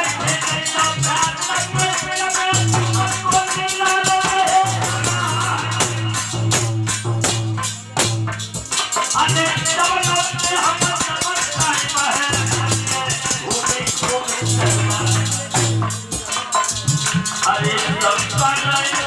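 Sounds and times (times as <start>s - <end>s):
jingling rattling percussion: 0.0s - 19.0s.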